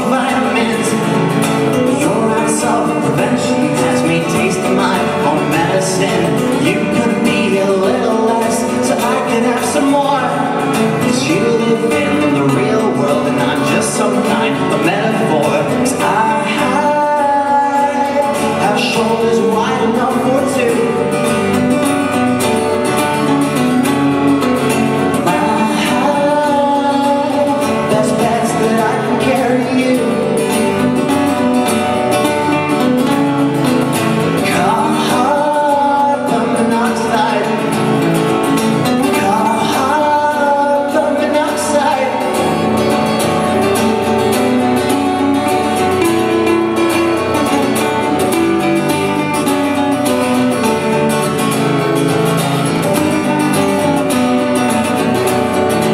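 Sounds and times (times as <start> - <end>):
person singing: 0.0 - 55.9
strummed acoustic guitar: 0.0 - 55.9.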